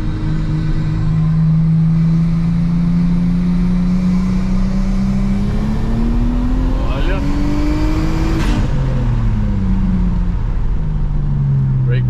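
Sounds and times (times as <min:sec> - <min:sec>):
car engine revving under throttle: 0:00.0 - 0:12.0.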